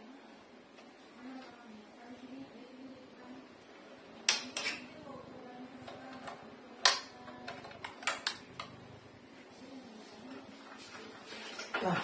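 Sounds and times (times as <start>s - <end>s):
faint steady hum: 0.0s - 11.8s.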